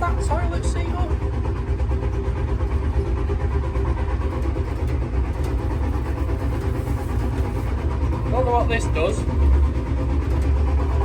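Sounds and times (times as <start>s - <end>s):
low rumble of train: 0.0s - 11.0s.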